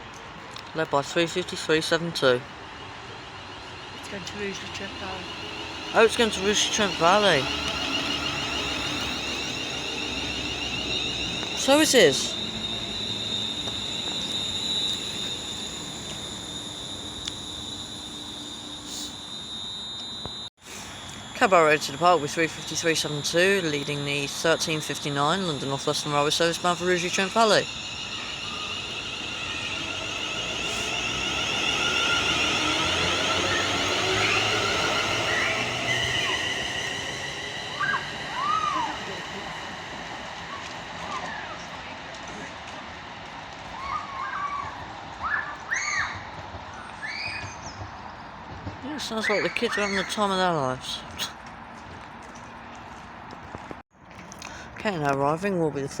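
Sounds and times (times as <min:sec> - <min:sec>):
train high-pitched whine: 0:00.0 - 0:53.7.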